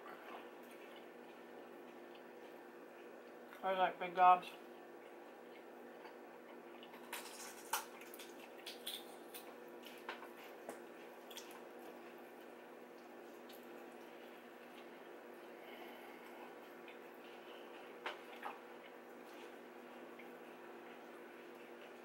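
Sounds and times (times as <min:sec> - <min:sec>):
faint steady hum: 0:00.0 - 0:22.0
wet chewing and lip smacks: 0:00.2 - 0:03.6, 0:04.6 - 0:15.6, 0:16.2 - 0:22.0.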